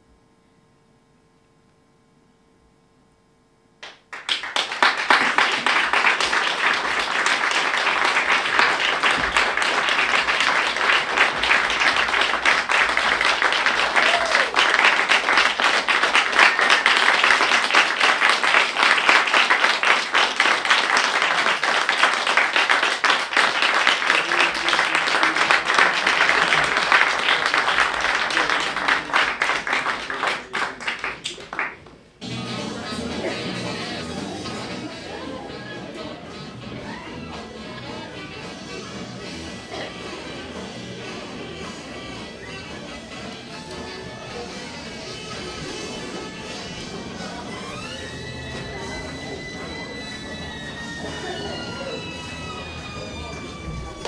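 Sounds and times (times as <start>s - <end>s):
audience applauding: 3.8s - 54.0s.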